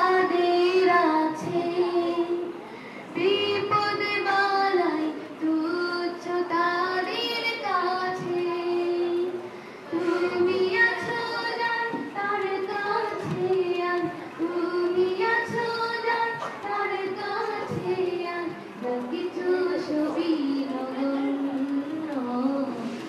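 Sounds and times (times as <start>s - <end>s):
girl singing slow melody: 0.0s - 23.0s.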